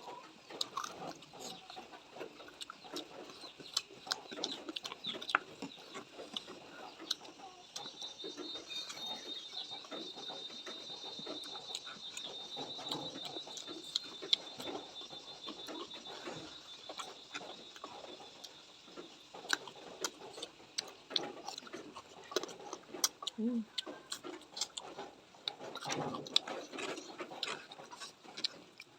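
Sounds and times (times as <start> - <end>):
chewing and crunching: 0.0 - 28.9.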